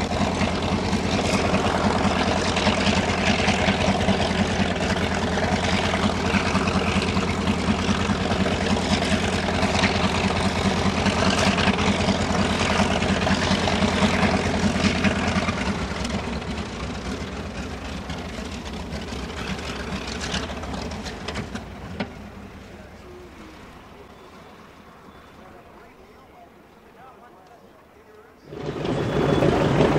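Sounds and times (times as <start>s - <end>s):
radial engine running: 0.0s - 29.9s.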